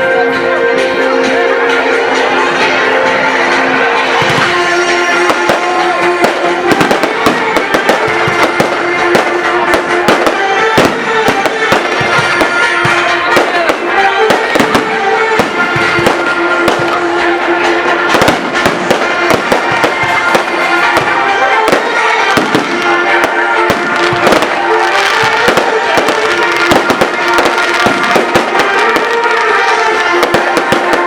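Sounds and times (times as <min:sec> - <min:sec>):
fireworks and firecrackers popping: 0:04.0 - 0:31.0.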